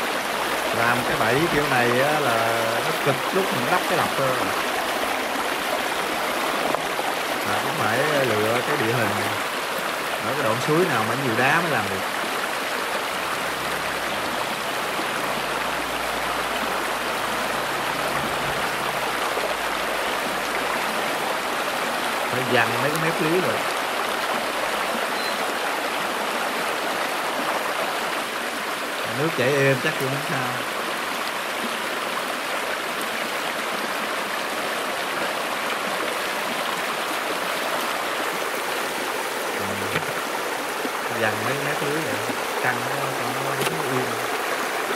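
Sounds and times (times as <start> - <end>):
stream rushing over stones: 0.0 - 44.9.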